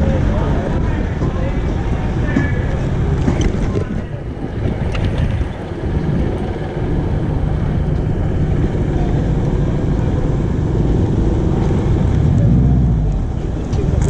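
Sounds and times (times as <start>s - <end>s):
road noise: 0.0s - 14.0s
wind rumble on microphone: 0.0s - 14.0s.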